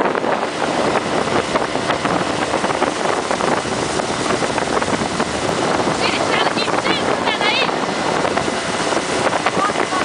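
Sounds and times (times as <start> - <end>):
outboard engine running: 0.0 - 10.0
rushing water and wind: 0.0 - 10.0.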